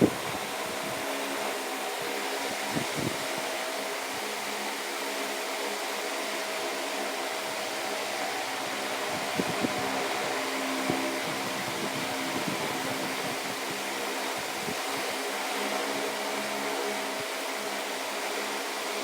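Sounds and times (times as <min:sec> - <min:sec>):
fan rushing air and humming: 0:00.0 - 0:19.0.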